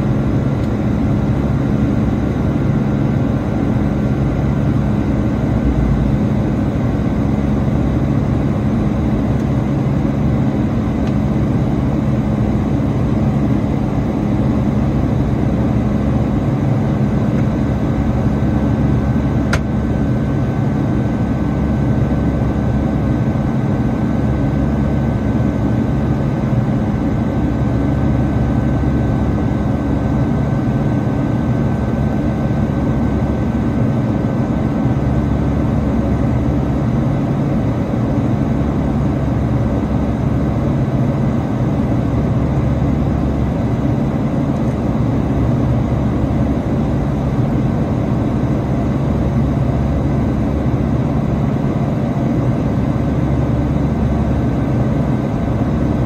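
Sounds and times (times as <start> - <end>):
jet engine roar in cabin: 0.0 - 56.0.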